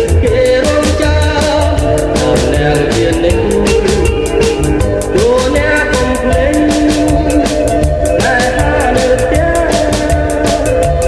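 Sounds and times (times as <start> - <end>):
sliding melody line: 0.0 - 11.0
steady drum beat: 0.0 - 11.0.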